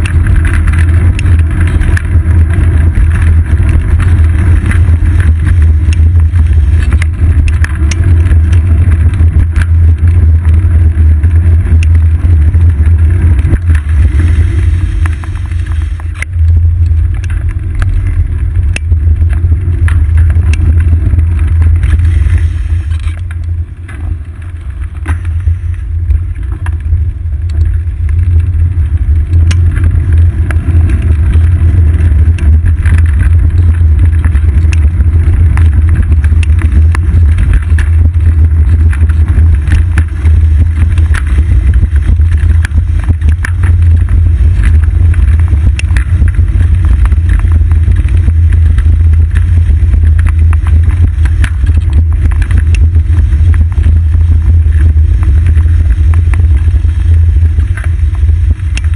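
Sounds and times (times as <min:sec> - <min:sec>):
bicycle ride rumble: 0:00.0 - 0:58.9
wind buffeting microphone: 0:00.0 - 0:58.9.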